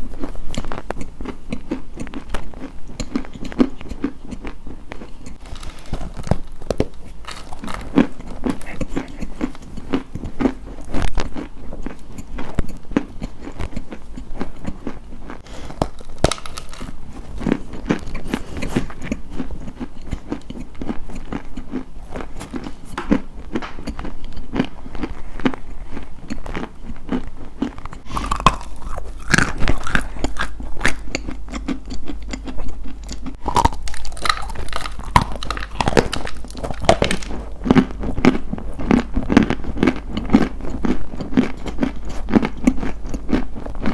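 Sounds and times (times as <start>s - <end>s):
crunching and chewing: 0.0s - 43.9s.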